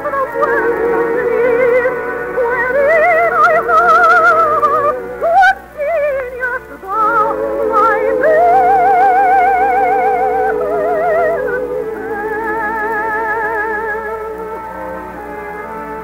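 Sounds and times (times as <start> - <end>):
soprano singing with vibrato: 0.0 - 16.0
orchestral accompaniment: 0.2 - 16.0.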